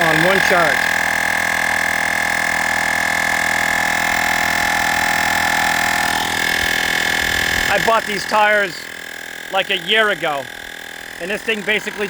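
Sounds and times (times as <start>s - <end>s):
air compressor whining: 0.0s - 12.0s.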